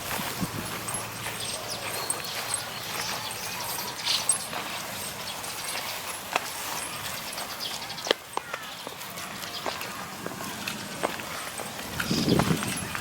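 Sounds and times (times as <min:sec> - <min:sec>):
footsteps clicking and tapping: 0:00.0 - 0:13.0
steady outdoor hiss: 0:00.0 - 0:13.0.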